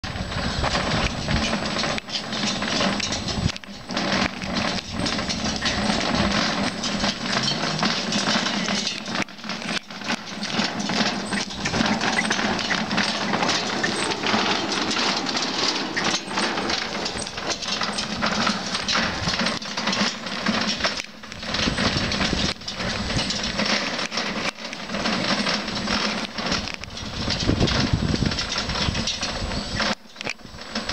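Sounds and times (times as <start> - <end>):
wooden cart wheels clattering: 0.0 - 30.9.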